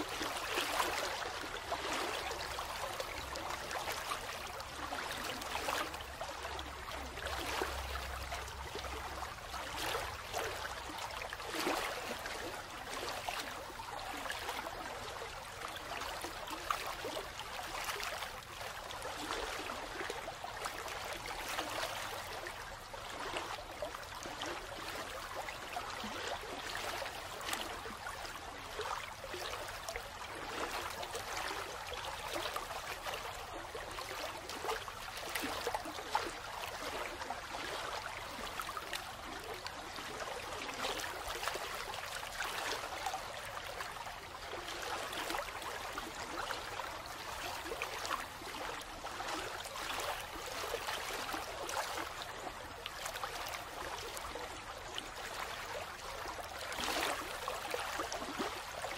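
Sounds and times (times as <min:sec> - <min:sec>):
flowing stream water: 0:00.0 - 0:58.9.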